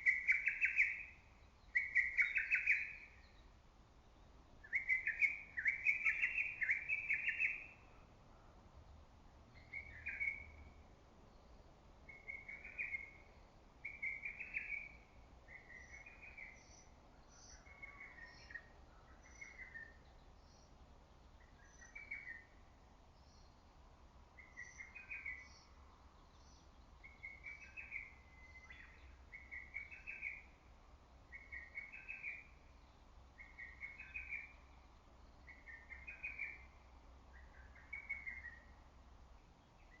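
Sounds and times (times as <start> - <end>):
faint high bird chirps: 0.0 - 3.5, 4.1 - 8.1, 9.6 - 20.8, 21.4 - 22.6, 24.4 - 30.6, 31.3 - 38.8.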